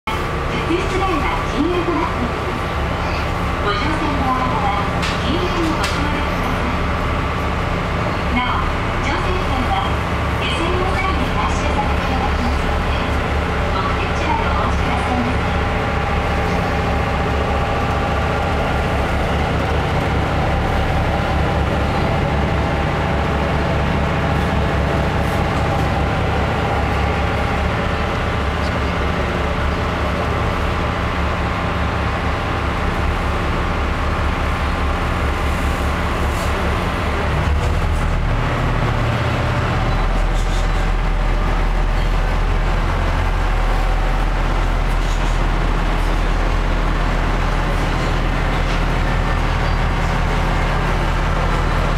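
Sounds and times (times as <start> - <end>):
deep engine rumble: 0.0 - 51.9
boat engines droning: 0.1 - 51.9.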